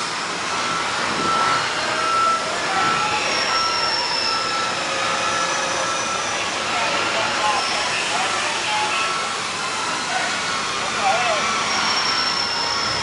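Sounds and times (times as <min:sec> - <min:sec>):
machinery noise: 0:00.0 - 0:13.0.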